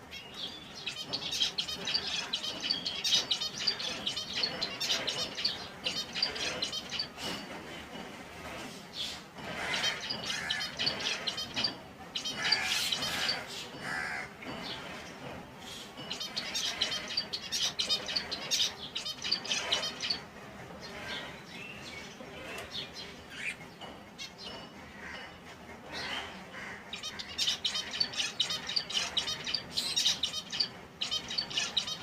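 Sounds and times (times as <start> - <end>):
finches chirping and trilling: 0.1 - 7.5, 9.5 - 15.2, 16.0 - 24.6, 26.9 - 32.0.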